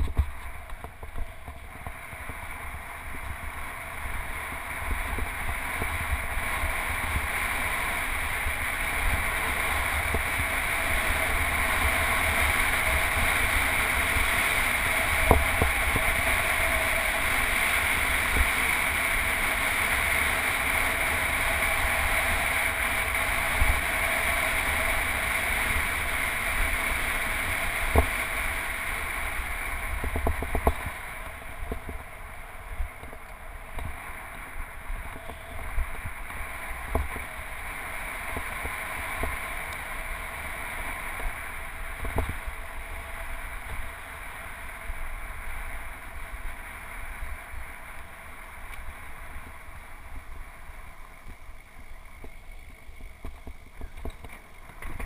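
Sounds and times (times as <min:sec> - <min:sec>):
bike tyres on concrete: 0:00.0 - 0:55.0
wind rushing over camera: 0:00.0 - 0:55.0.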